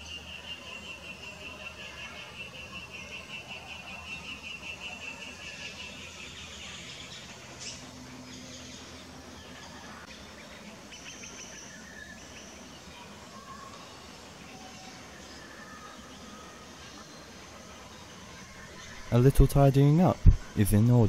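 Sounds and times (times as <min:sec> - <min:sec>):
faint bird calls: 0:00.0 - 0:19.3
outdoor background noise: 0:00.0 - 0:21.0.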